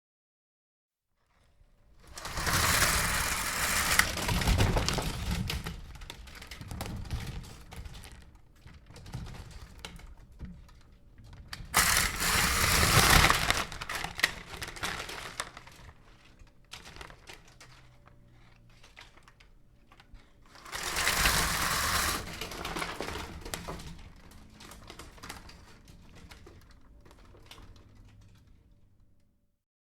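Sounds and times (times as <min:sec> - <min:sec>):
window blinds clattering: 0:02.0 - 0:29.0.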